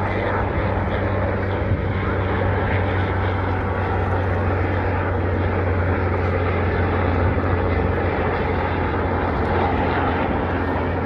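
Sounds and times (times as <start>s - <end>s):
helicopter droning in flight: 0.0s - 11.0s.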